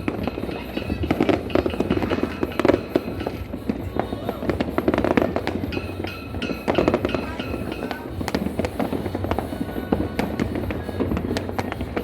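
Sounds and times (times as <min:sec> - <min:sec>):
faint music: 0:00.0 - 0:12.0
fireworks bangs and crackles: 0:00.0 - 0:12.0.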